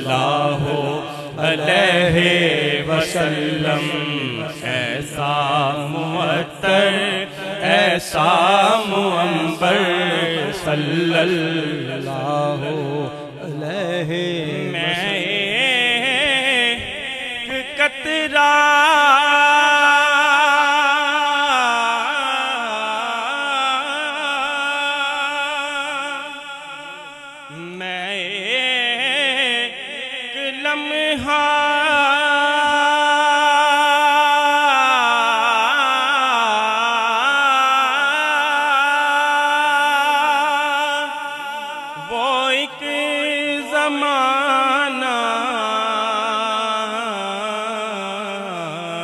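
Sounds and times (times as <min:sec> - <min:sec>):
man singing: 0:00.0 - 0:49.0.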